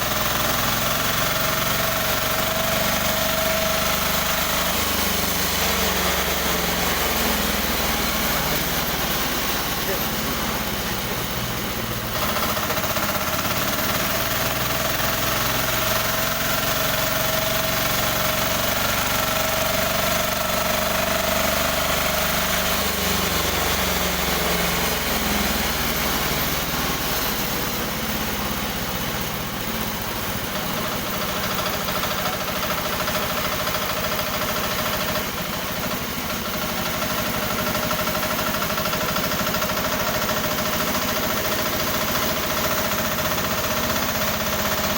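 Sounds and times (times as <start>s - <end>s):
sawmill machine whining drone: 0.0s - 44.9s.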